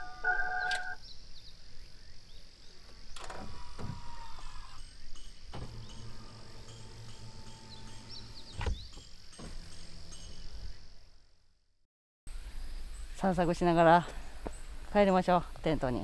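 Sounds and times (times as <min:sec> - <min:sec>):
insect chorus: 0:00.0 - 0:11.3, 0:12.3 - 0:16.0.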